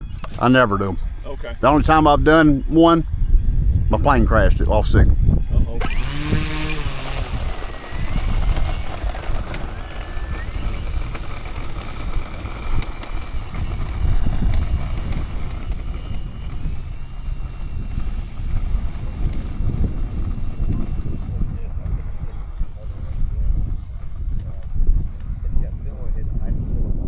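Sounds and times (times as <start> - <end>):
wind buffeting microphone: 0.0 - 27.0
model plane electric motor whining: 4.2 - 26.2.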